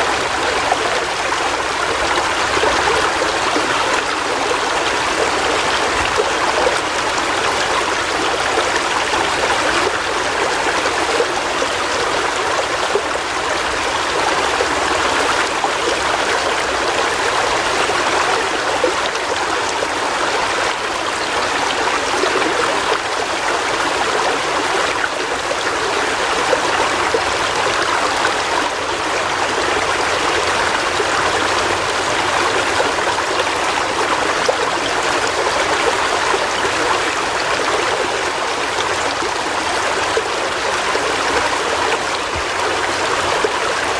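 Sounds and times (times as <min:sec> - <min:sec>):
river water rushing over rocks: 0:00.0 - 0:43.9.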